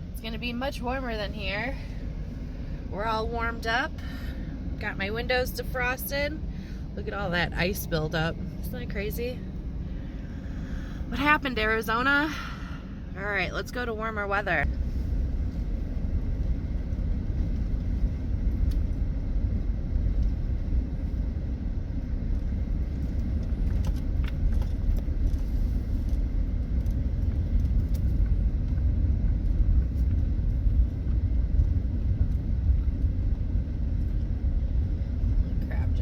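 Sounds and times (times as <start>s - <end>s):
vehicle engine and road noise: 0.0s - 36.0s.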